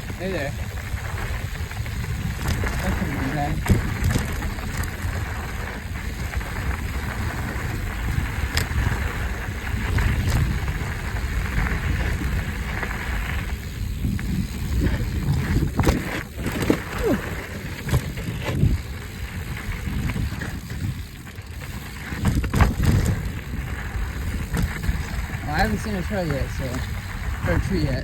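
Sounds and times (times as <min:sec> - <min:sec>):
bicycle tyre noise on dirt: 0:00.0 - 0:28.0
bike knocking and rattling: 0:00.0 - 0:28.0
wind rumbling on microphone: 0:00.0 - 0:28.0.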